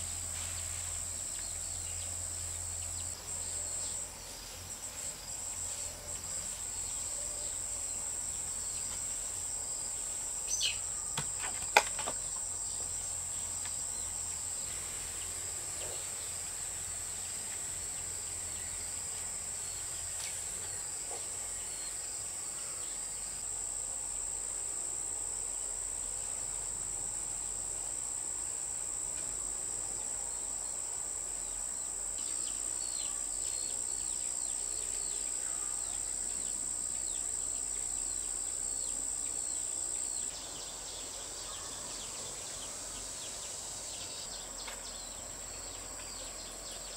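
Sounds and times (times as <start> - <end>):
insects chirring: 0.0 - 46.9.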